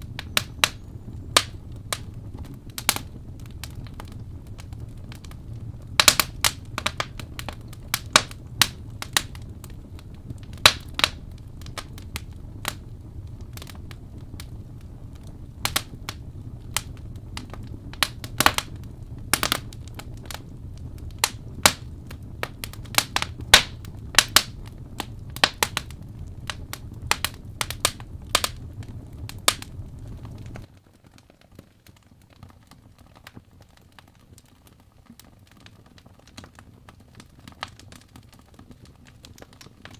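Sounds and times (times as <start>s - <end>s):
low fire rumble: 0.0s - 39.9s
wood fire popping and snapping: 0.0s - 39.9s.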